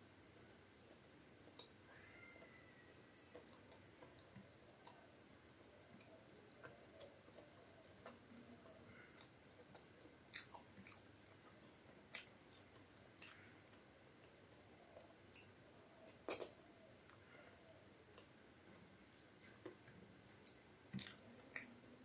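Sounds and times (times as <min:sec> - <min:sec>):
person chewing food: 0:00.3 - 0:22.0.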